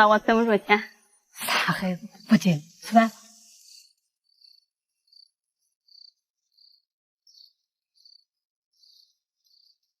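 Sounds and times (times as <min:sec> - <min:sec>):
faint cricket chirping: 0:00.0 - 0:10.0.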